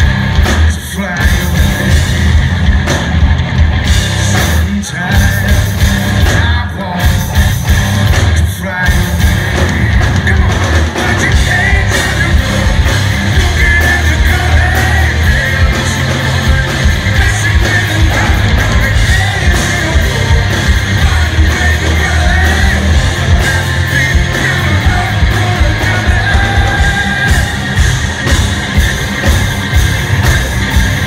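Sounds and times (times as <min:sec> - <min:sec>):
hard rock band playing live: 0:00.0 - 0:31.0.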